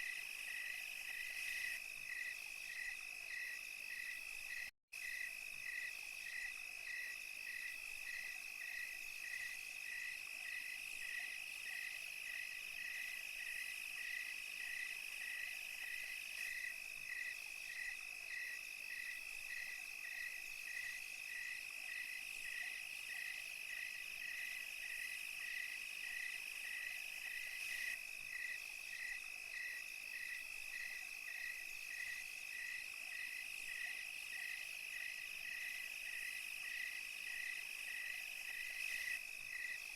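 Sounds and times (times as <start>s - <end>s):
crickets trilling: 0.0s - 39.9s
hiss of high insect sound: 0.0s - 39.9s
repeating insect chirp: 0.0s - 39.9s.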